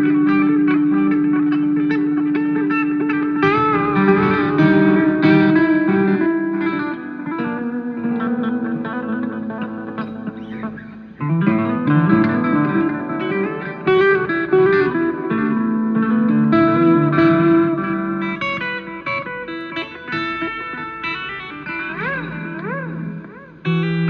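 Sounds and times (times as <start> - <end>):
guitar plucking melody: 0.0 - 24.0.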